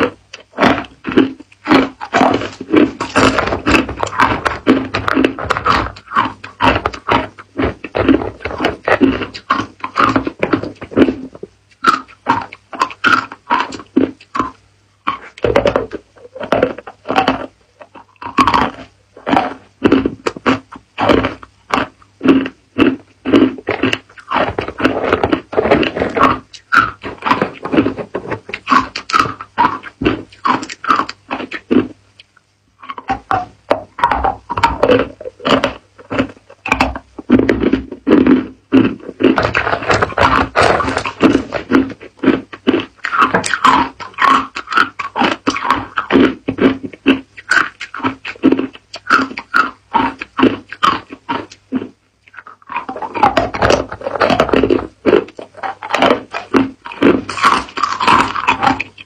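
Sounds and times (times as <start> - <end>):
teeth crunching ice cubes: 0.0 - 59.0.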